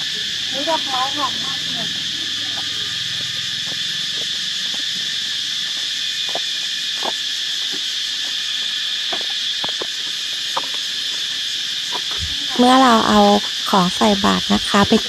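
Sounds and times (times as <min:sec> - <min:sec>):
crickets and insects chorus: 0:00.0 - 0:15.0
short single insect calls: 0:00.0 - 0:15.0.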